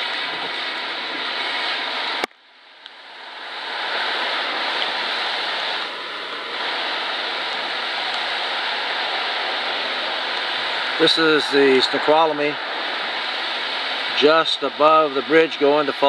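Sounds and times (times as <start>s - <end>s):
river rushing: 0.0s - 16.0s.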